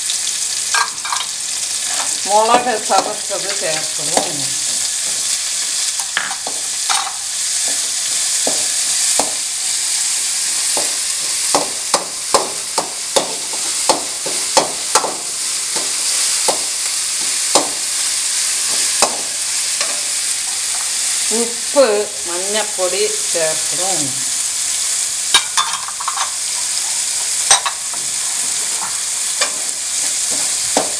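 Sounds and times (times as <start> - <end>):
spices sizzling in oil: 0.0 - 30.9.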